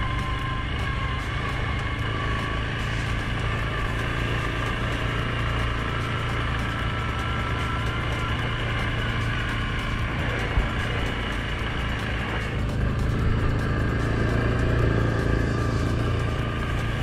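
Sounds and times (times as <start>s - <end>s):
atv engine running: 0.0s - 17.0s
steady high tones: 0.0s - 17.0s.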